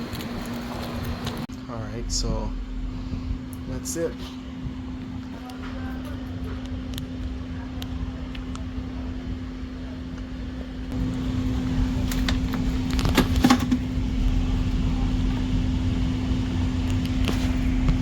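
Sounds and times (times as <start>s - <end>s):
air conditioner unit humming: 0.0s - 18.0s.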